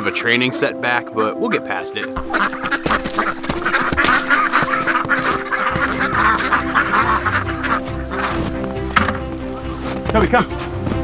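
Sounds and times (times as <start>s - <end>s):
ducks quacking: 1.1s - 10.0s.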